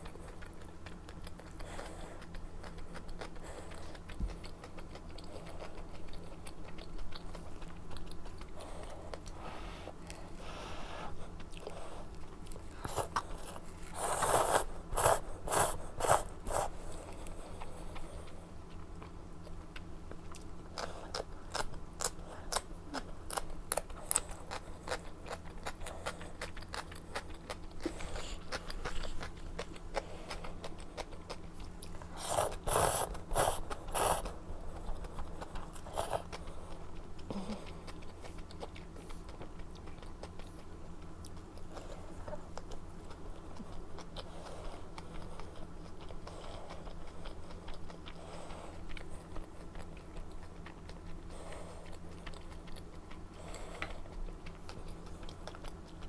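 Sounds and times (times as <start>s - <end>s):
chewing with wet clicks: 0.0s - 56.0s.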